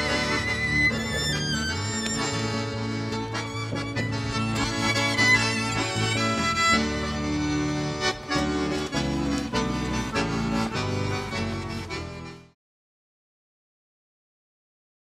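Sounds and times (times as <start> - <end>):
instrumental soundtrack music: 0.0 - 12.6.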